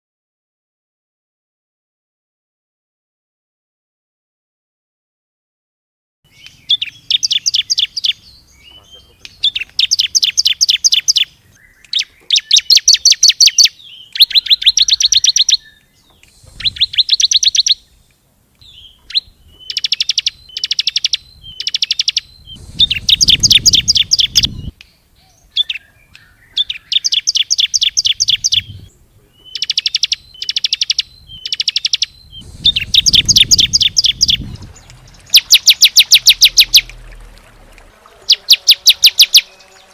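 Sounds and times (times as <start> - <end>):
bird song rapid high notes: 6.3 - 18.0, 18.6 - 39.9.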